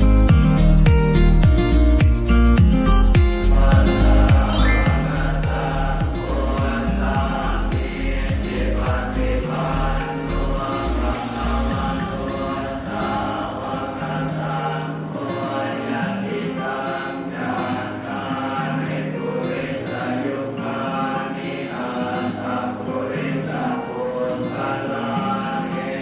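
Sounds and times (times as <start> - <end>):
voices singing slow chant: 3.0 - 26.0.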